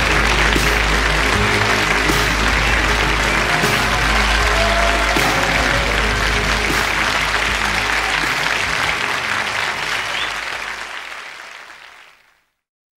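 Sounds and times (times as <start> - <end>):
recorded song low notes: 0.0 - 10.4
applause-like hiss: 0.0 - 12.5.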